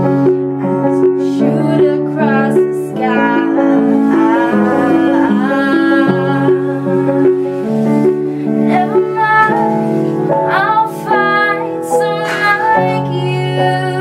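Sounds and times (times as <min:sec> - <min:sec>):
piano playing chords: 0:00.0 - 0:14.0
woman singing: 0:00.0 - 0:14.0.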